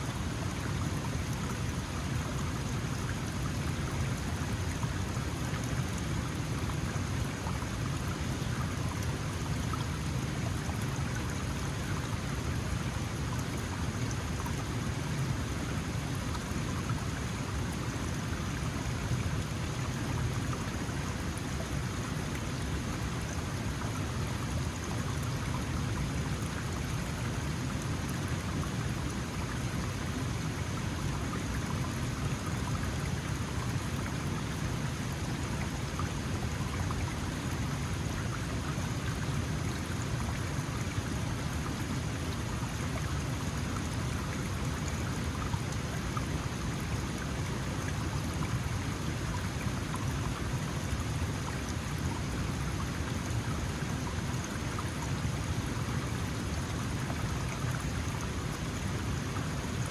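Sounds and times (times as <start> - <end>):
mountain stream flowing: 0.0 - 59.9.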